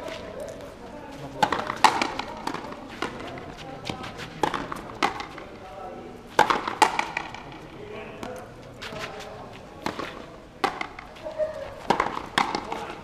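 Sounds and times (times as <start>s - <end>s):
murmur of voices: 0.0s - 13.0s
ball striking rackets and walls: 1.3s - 13.0s.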